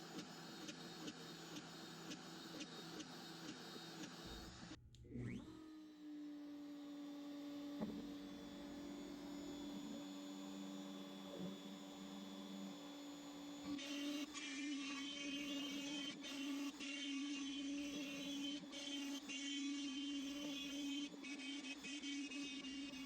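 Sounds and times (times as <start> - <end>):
router spindle humming: 0.0 - 23.0.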